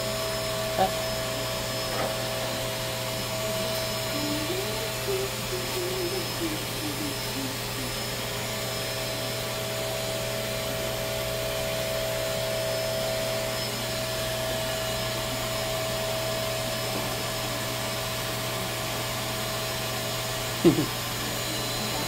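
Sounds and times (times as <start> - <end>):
electric hair clippers buzzing: 0.0 - 22.0.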